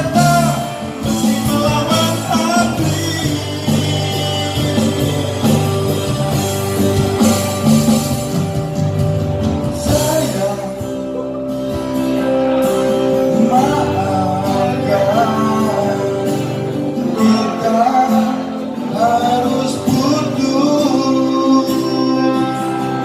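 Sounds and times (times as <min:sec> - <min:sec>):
guitar-led pop ballad: 0:00.0 - 0:23.0.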